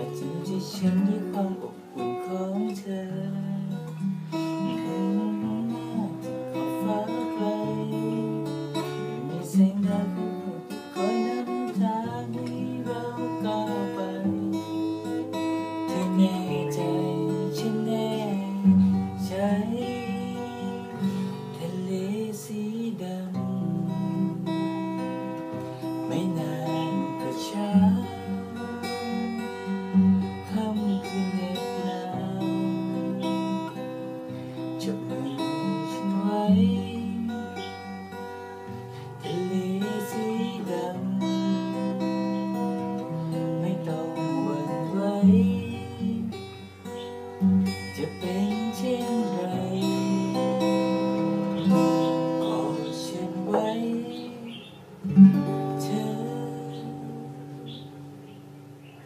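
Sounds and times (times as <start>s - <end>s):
man singing: 0.0s - 24.7s, 25.3s - 37.9s, 38.9s - 58.0s
acoustic guitar strumming: 0.0s - 59.0s.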